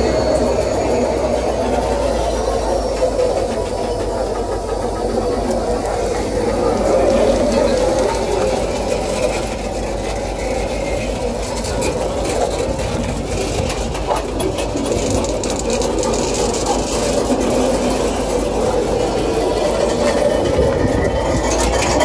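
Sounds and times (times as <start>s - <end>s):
freight train wheels rumbling: 0.0s - 22.0s
wheels and couplings clicking: 0.0s - 22.0s.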